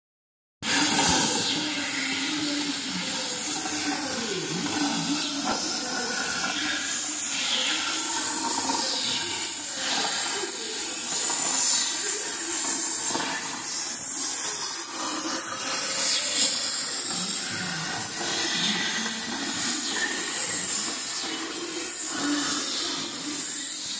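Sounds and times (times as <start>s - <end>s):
gas cutting torch hissing: 0.6s - 23.9s.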